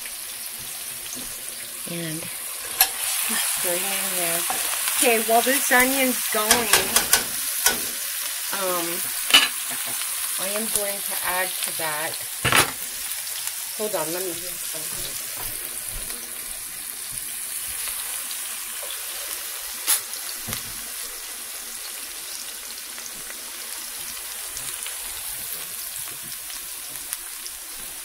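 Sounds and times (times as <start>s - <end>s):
onion sizzling in hot oil: 0.0s - 28.0s.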